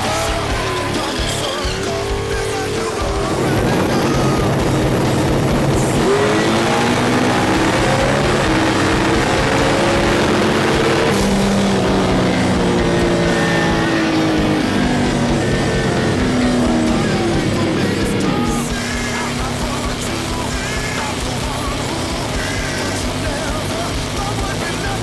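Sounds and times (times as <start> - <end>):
race car engine running hard: 0.0 - 25.0
rock music: 0.0 - 25.0.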